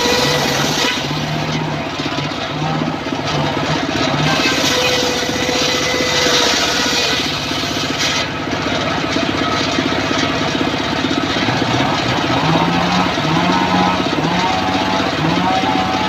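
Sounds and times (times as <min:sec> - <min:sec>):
circular saw ripping wood: 0:00.0 - 0:16.0
engine running with fast pulse: 0:00.0 - 0:16.0.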